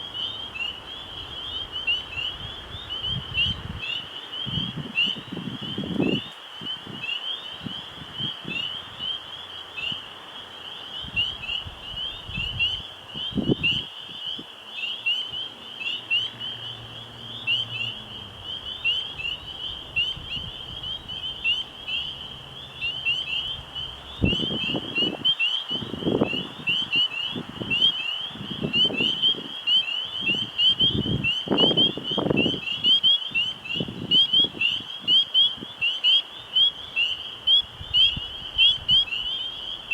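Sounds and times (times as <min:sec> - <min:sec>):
frogs peeping: 0:00.0 - 0:39.9.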